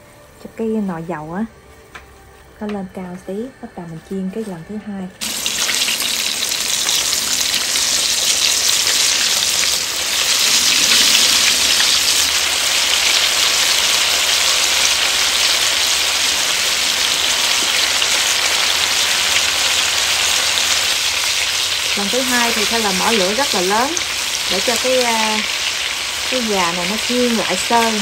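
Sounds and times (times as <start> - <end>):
chicken deep-frying in oil: 4.5 - 28.0.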